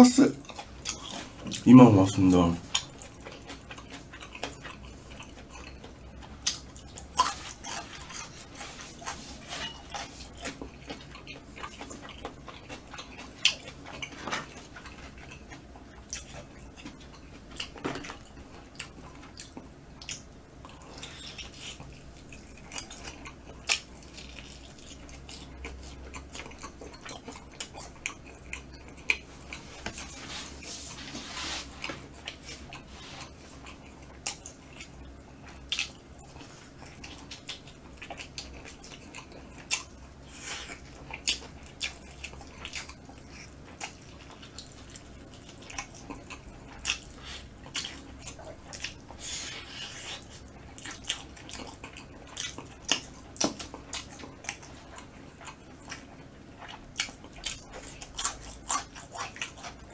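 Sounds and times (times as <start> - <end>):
chewing and biting: 0.4 - 30.7, 31.6 - 59.9.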